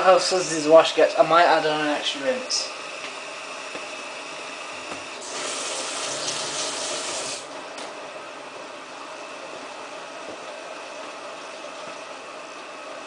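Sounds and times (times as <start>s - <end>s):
washing machine water inflow hiss: 0.0s - 13.0s.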